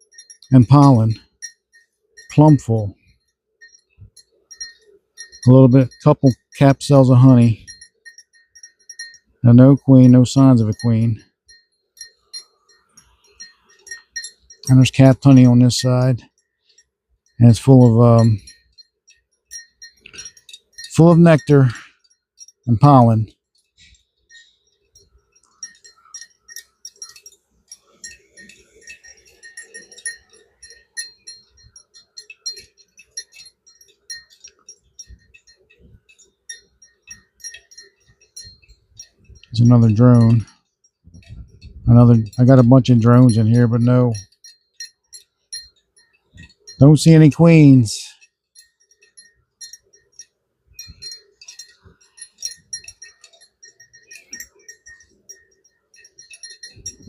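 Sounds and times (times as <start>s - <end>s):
light clicks and tinkling notes: 0.0s - 57.0s
light metallic clinks: 0.0s - 57.0s.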